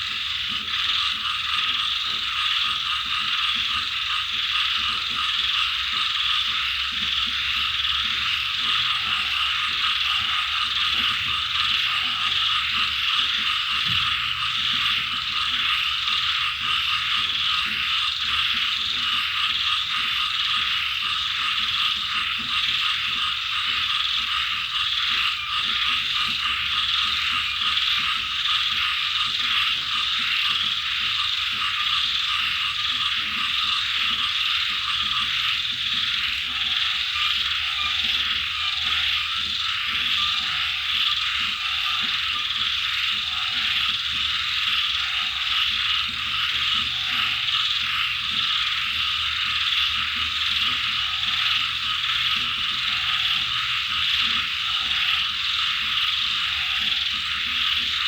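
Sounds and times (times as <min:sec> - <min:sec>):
frogs and insects trilling: 0:00.0 - 0:58.0
low frog croaks: 0:00.0 - 0:58.0.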